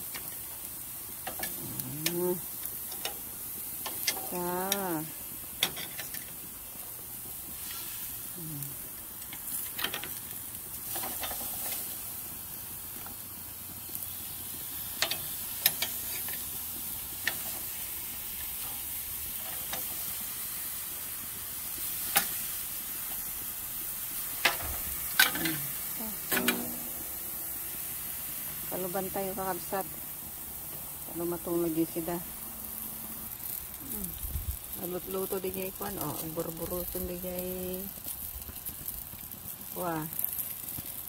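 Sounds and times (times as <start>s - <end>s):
mussels sizzling on a grill: 0.0s - 41.0s.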